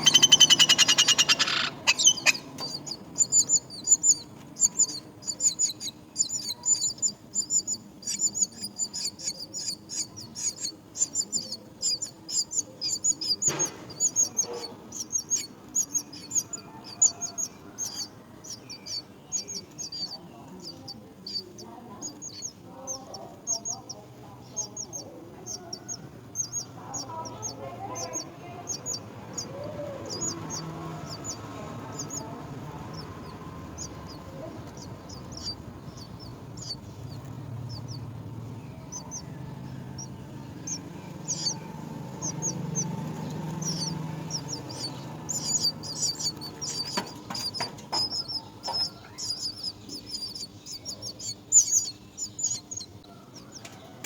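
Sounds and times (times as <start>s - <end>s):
low background murmur: 0.0s - 54.0s
small birds chirping: 0.0s - 54.0s.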